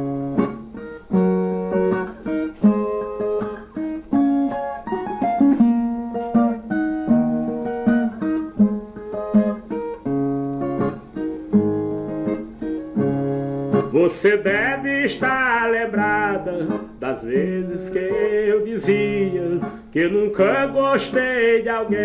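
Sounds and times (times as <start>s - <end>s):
plucked guitar melody: 0.0s - 22.0s.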